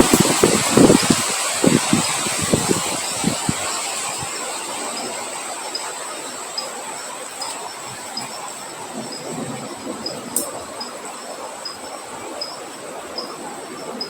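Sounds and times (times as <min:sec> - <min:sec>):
rain hissing: 0:00.0 - 0:14.0
wind gusts buffeting: 0:00.0 - 0:14.0.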